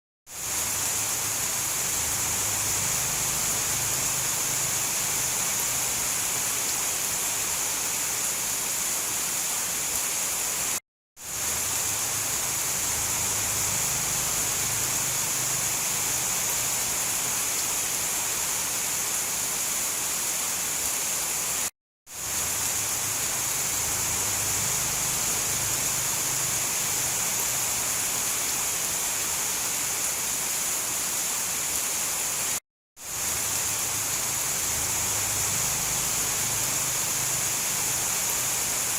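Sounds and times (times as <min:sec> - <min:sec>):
steady rain hiss: 0:00.3 - 0:38.9.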